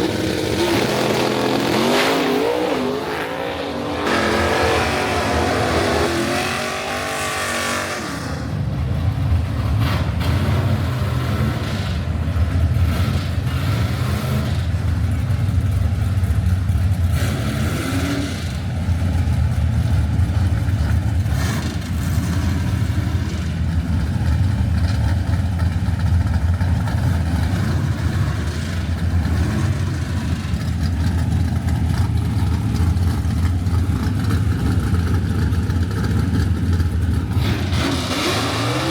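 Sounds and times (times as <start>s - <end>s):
drag racing car engine revving: 0.0s - 38.9s.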